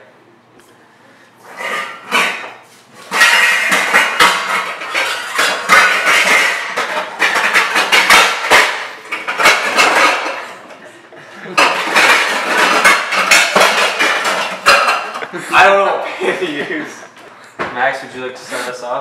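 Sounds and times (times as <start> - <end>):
pots and pans clanking: 1.4 - 17.7.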